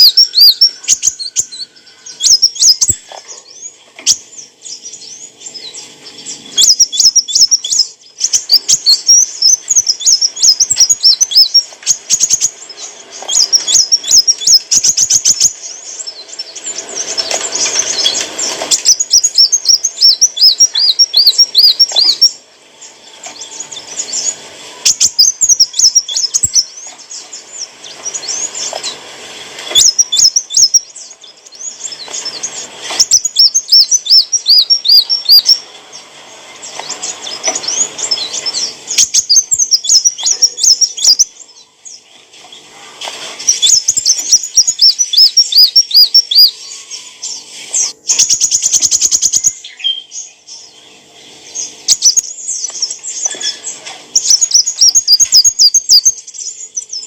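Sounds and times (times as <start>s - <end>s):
sunbird singing: 0.0s - 57.0s.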